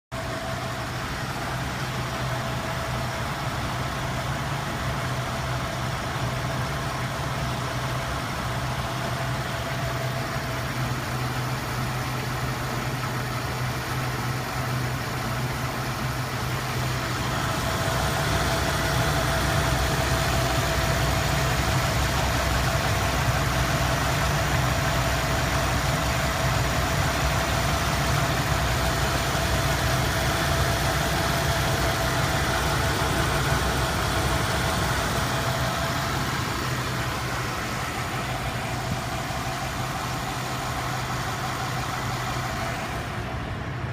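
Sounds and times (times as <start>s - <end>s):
car engine idling rough: 0.1s - 43.9s.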